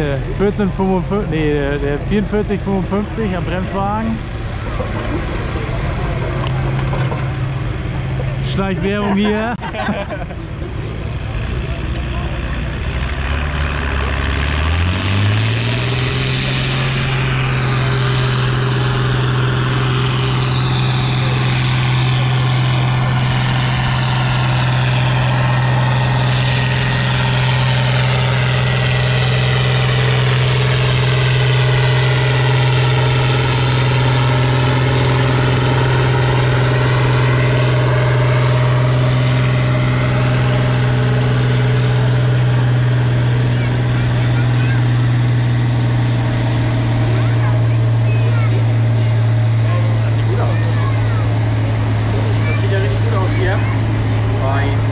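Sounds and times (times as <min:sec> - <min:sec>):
tractor diesel engine revving: 0:00.0 - 0:54.9.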